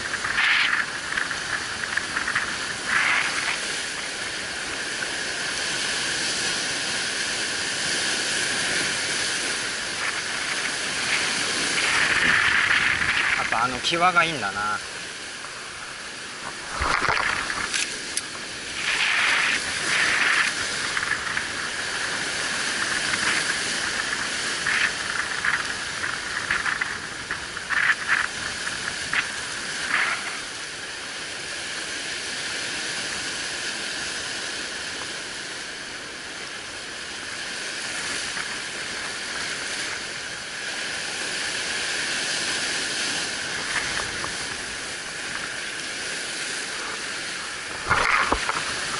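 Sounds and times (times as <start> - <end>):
surf breaking on rocks: 0.0 - 48.9.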